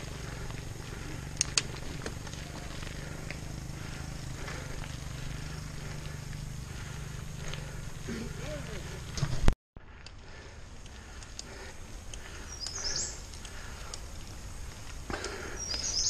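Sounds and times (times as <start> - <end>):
bike tyres rolling on gravel: 0.0 - 16.0.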